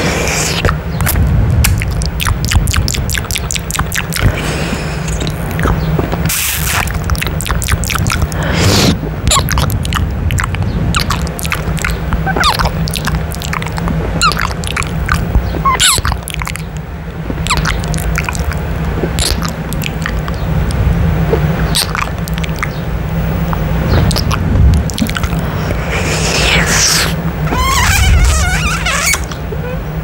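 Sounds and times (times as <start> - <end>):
low rumble against microphone grille: 0.0 - 30.0
wet lip smacks and clicks: 0.2 - 22.8, 23.5 - 29.4.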